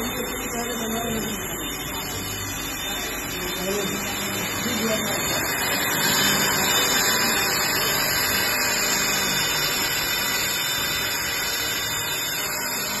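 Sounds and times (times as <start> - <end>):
milling machine cutting: 0.0 - 13.0.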